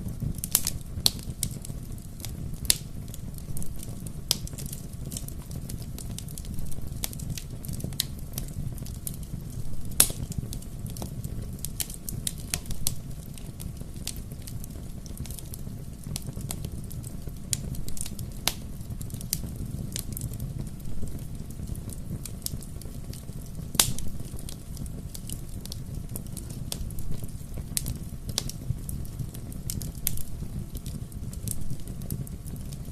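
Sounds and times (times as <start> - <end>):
bonfire crackling and popping: 0.0 - 32.9
low rumble of flame: 0.0 - 32.9.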